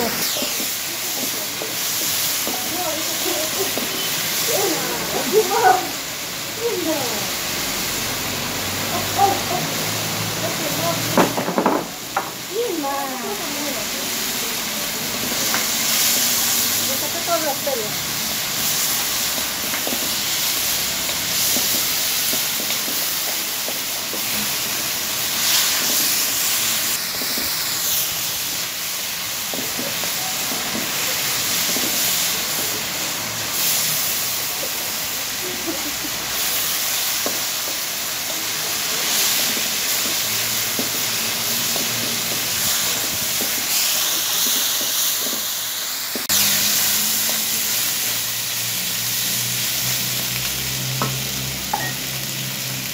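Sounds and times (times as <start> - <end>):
chicken frying in oil: 0.0 - 52.9.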